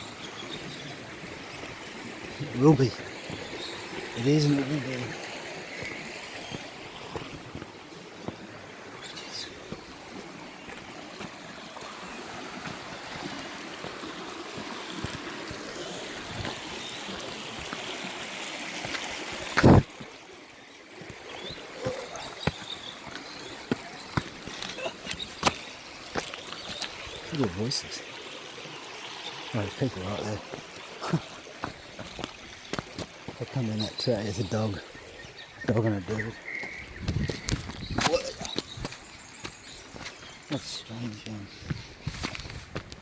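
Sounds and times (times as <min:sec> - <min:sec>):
creek water flowing: 0:00.0 - 0:43.0.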